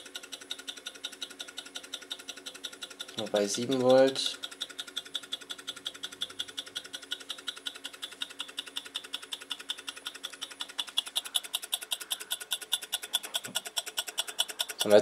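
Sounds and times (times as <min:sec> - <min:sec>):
small fan motor running: 0:00.0 - 0:15.0
switch ticking rapidly: 0:00.0 - 0:15.0.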